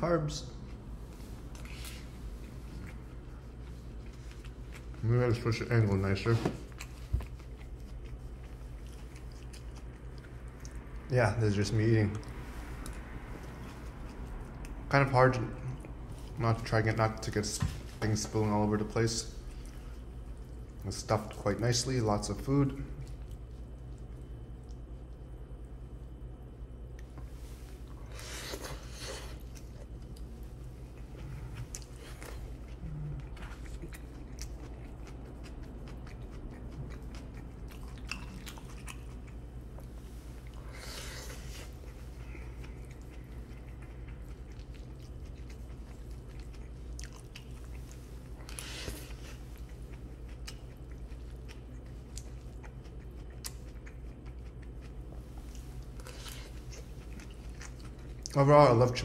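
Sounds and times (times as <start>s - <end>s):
steady low hum: 0.0s - 59.0s
chewing and crunching food: 0.5s - 59.0s.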